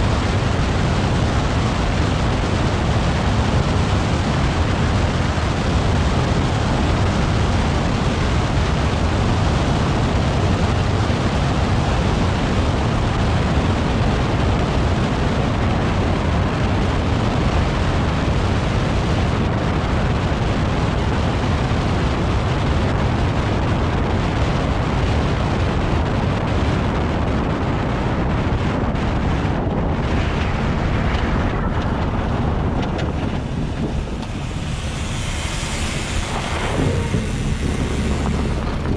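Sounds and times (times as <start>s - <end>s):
tyre and road rush: 0.0s - 38.9s
wind buffeting microphone: 0.0s - 38.9s.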